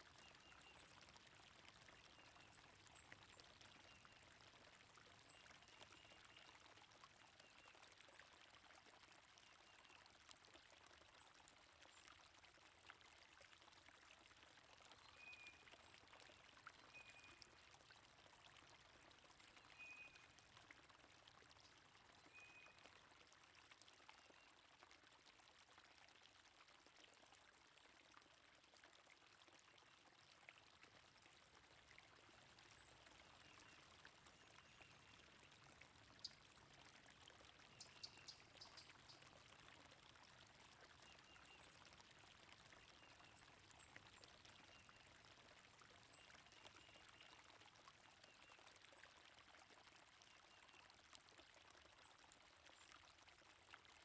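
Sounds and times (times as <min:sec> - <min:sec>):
flowing water: 0:00.0 - 0:54.0.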